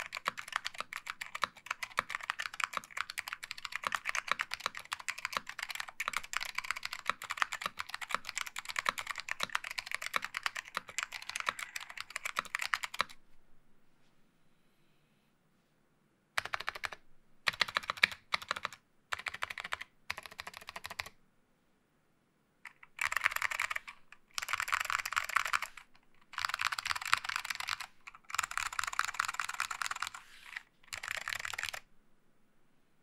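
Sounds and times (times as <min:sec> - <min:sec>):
mechanical keyboard typing: 0:00.0 - 0:13.2, 0:16.4 - 0:21.1, 0:22.7 - 0:31.9.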